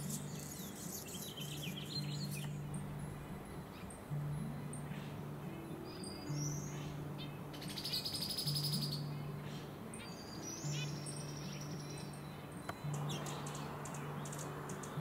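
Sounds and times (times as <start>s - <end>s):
soft music with low held notes: 0.0s - 15.0s
songbirds whistling: 0.0s - 15.0s.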